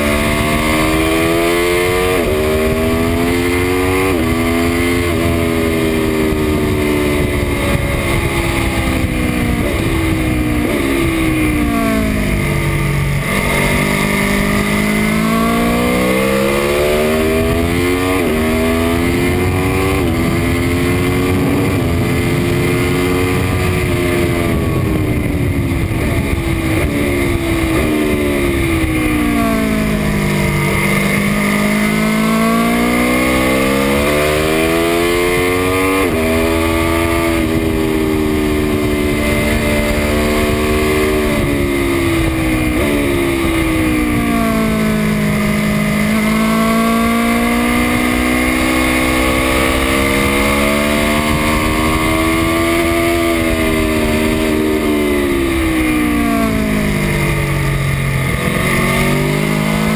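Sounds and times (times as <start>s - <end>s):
motorcycle engine revving: 0.0s - 59.9s
wind rushing past microphone: 0.0s - 59.9s.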